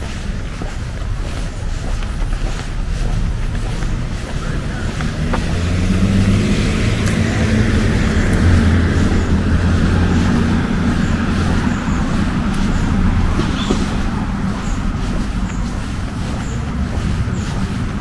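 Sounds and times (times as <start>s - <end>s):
vehicle driving past: 2.8s - 18.0s.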